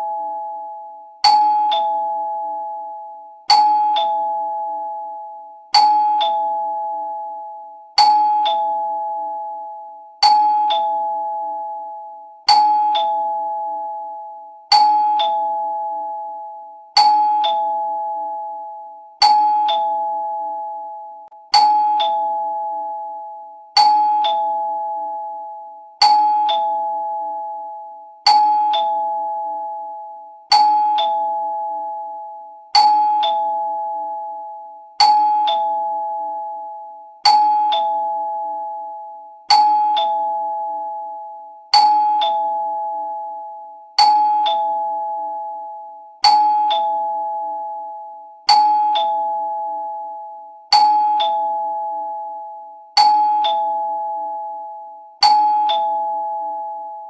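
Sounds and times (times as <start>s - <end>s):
two-tone doorbell chime: 0.0s - 57.0s.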